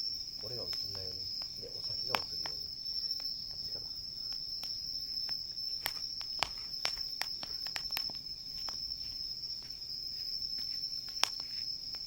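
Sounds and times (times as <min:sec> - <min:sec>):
campfire crackling and popping: 0:00.0 - 0:12.0
night insects trilling: 0:00.0 - 0:12.0.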